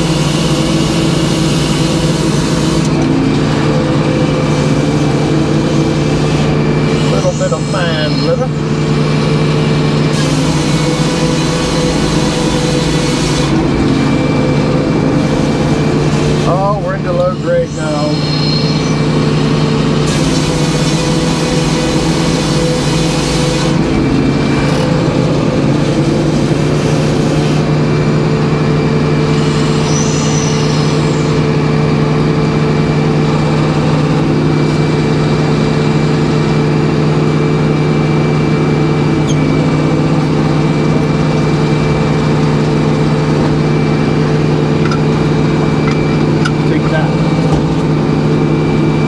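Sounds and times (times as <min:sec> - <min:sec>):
sawmill saw engine droning: 0:00.0 - 0:49.0.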